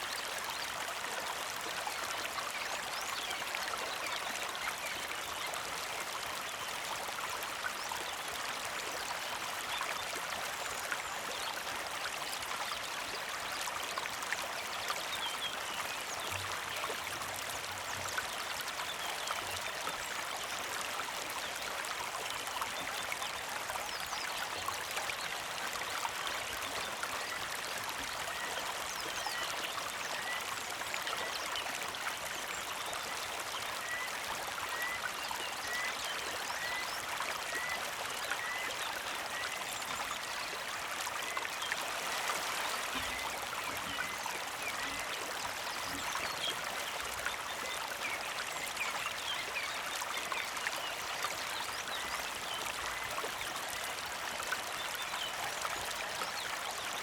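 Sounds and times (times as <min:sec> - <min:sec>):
creek water flowing: 0:00.0 - 0:57.0.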